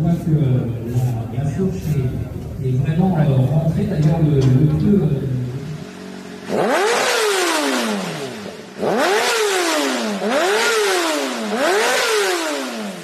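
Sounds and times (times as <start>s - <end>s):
motorcycle engine revving: 0.6s - 13.0s.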